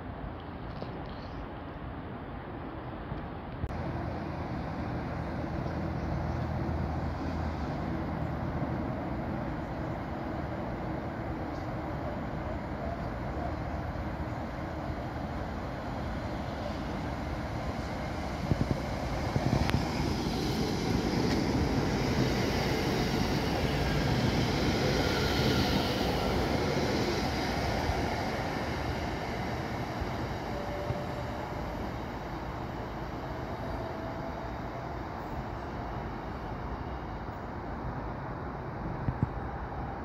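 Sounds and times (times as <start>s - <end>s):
train passing on rails: 0.0s - 40.0s.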